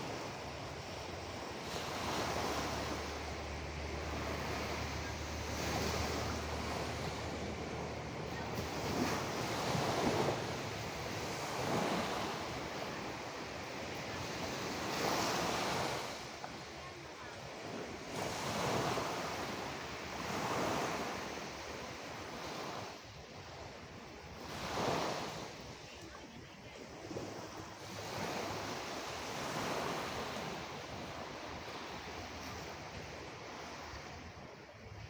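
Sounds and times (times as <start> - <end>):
sea waves washing onto shore: 0.0 - 35.0.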